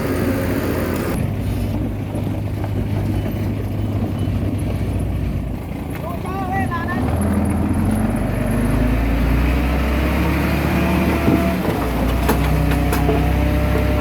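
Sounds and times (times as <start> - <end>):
bulldozer diesel engine: 0.0 - 14.0.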